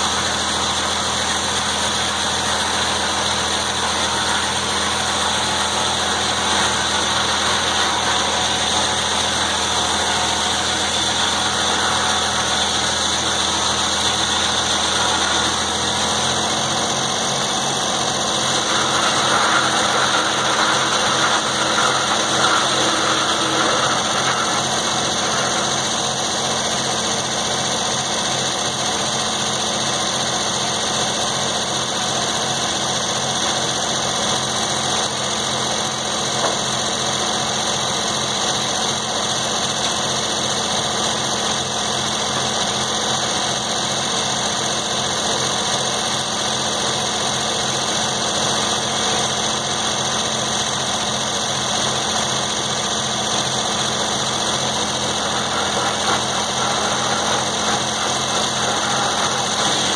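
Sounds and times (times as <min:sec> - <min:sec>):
sawmill engine and spinning saw: 0:00.0 - 0:59.9.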